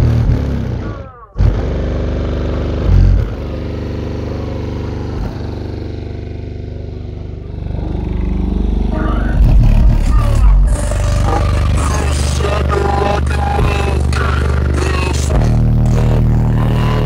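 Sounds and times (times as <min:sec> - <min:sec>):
deep bass from subwoofers: 0:00.0 - 0:17.0.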